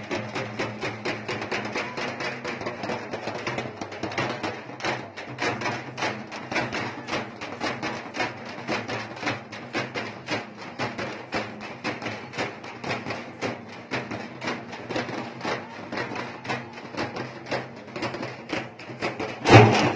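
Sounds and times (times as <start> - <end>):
drums beaten fast: 0.0 - 19.9.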